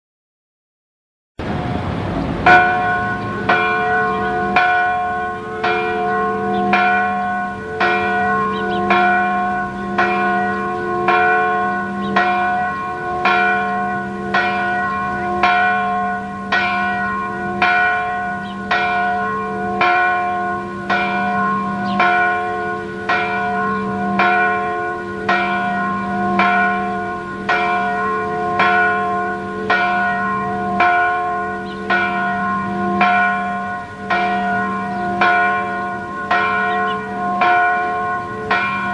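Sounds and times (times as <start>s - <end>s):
church bells ringing: 1.9s - 38.9s.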